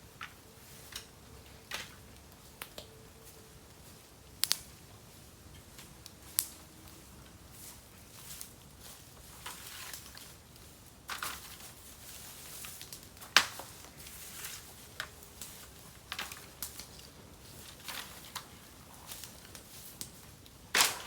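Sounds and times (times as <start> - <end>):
bamboo crackling on a fire: 0.0 - 21.0.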